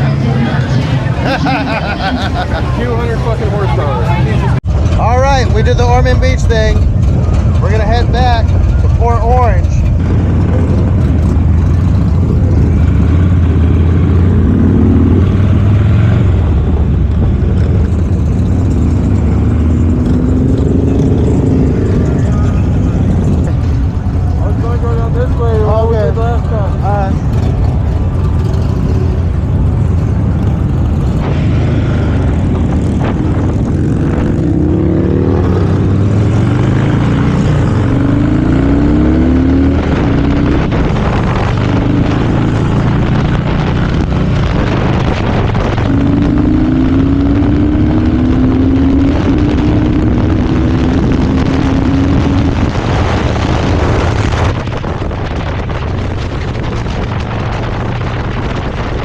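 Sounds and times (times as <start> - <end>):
road and wind noise: 0.0 - 59.0
vehicle engine accelerating: 0.0 - 59.0.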